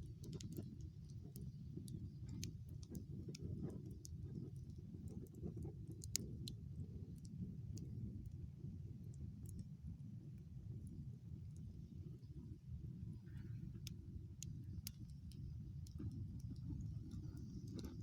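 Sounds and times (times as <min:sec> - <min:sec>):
campfire crackling: 0:00.0 - 0:12.5, 0:13.3 - 0:18.0.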